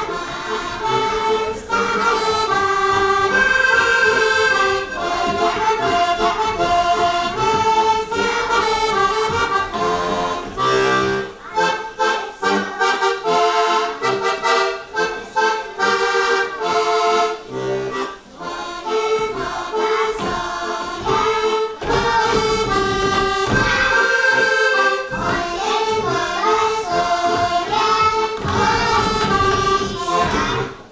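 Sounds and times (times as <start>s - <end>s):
accordion folk dance tune: 0.0s - 30.9s.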